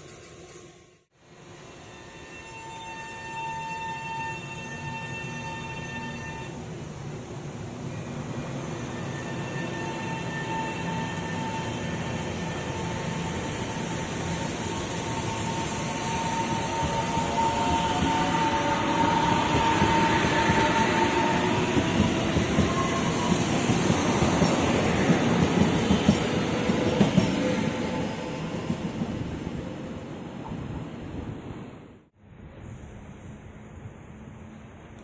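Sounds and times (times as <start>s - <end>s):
train passing: 0.0s - 35.0s.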